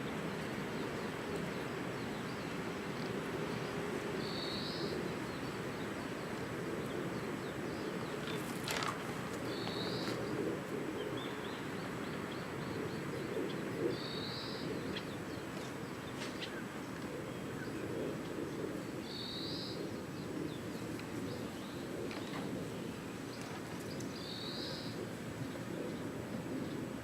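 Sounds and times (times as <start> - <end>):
steady low background noise: 0.0 - 27.0.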